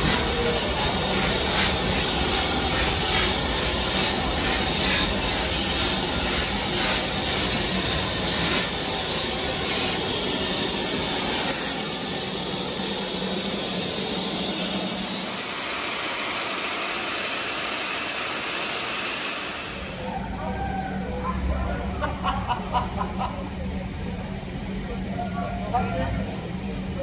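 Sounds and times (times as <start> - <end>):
steam hissing from safety valves: 0.0 - 27.0
steam locomotive drawing in: 0.0 - 27.0.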